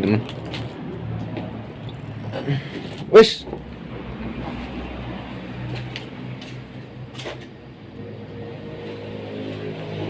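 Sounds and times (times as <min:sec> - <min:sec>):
heavy vehicle engine: 0:00.0 - 0:10.0
passing road traffic drone: 0:00.0 - 0:10.0.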